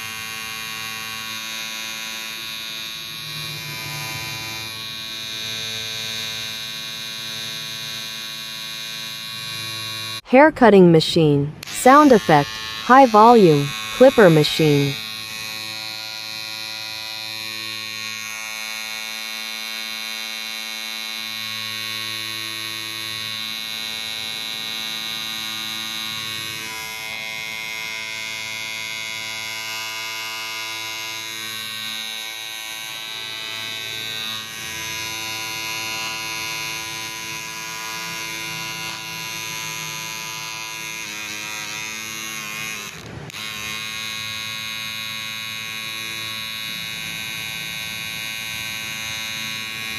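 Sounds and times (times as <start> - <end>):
electric hair clipper buzzing: 0.0 - 10.2, 11.6 - 12.8, 13.7 - 14.0, 15.0 - 49.9.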